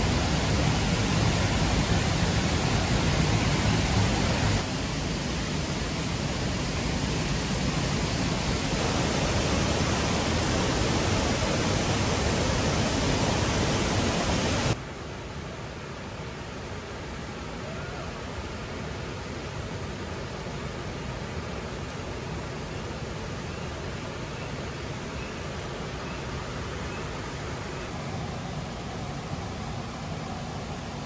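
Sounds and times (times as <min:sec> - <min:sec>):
waterfall roaring: 0:00.0 - 0:31.0.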